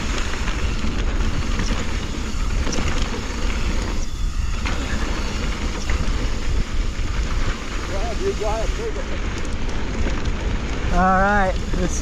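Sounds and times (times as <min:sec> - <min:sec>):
tyres on dirt trail: 0:00.0 - 0:12.0
wind rumble on microphone: 0:00.0 - 0:12.0.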